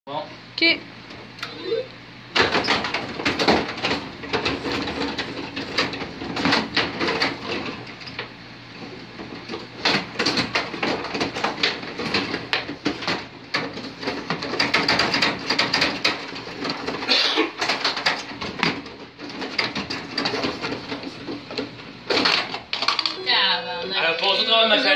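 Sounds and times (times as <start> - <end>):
plastic players and puck clacking: 2.4 - 23.2.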